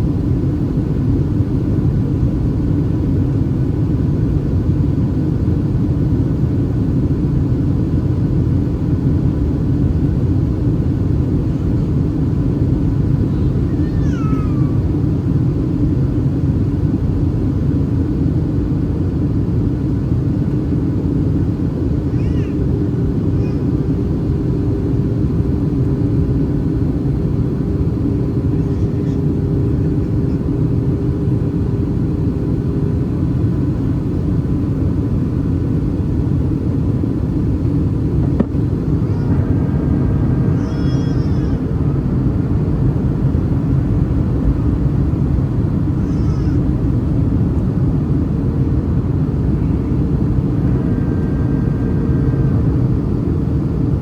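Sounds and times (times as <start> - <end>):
airplane cabin engine rumble: 0.0 - 54.0
constant low hum: 0.0 - 54.0.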